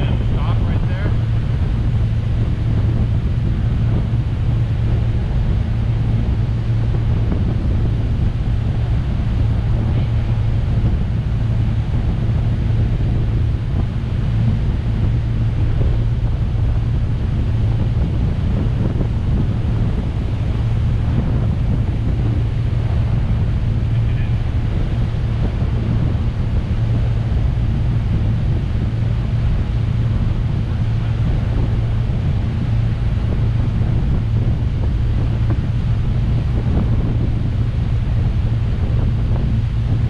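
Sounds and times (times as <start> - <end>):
boat engine drone: 0.0 - 40.0
water rushing past hull: 0.0 - 40.0
wind buffeting microphone: 0.0 - 40.0.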